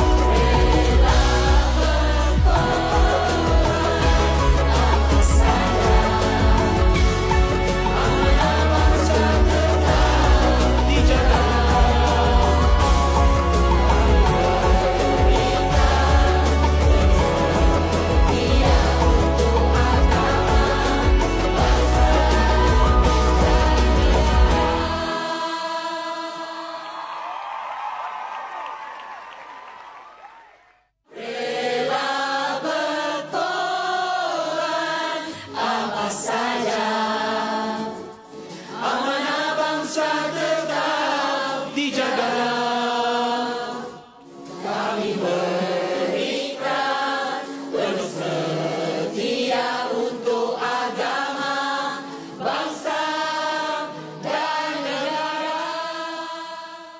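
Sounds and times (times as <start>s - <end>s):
group singing in harmony: 0.0s - 27.4s, 31.1s - 56.9s.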